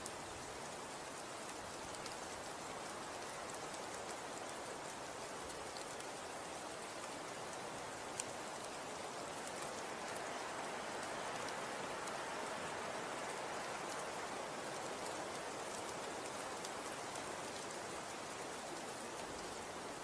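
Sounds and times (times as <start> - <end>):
faint ticks: 0.0 - 20.0
falling snow hiss: 1.2 - 20.0.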